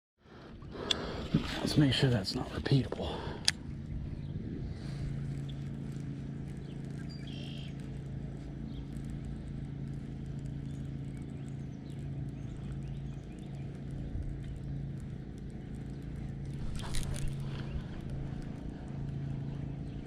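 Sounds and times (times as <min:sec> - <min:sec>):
motor humming: 0:00.2 - 0:20.0.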